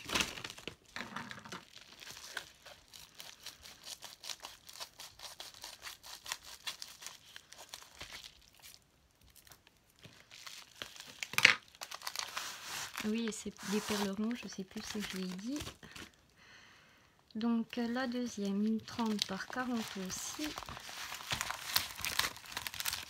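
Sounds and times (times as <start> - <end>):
plastic pouch crinkling: 0.0 - 16.3, 17.8 - 23.0.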